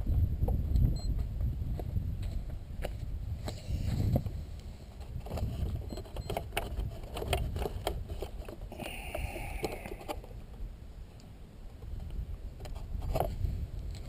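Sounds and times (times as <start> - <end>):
wind buffeting microphone: 0.0 - 10.8, 11.8 - 14.0.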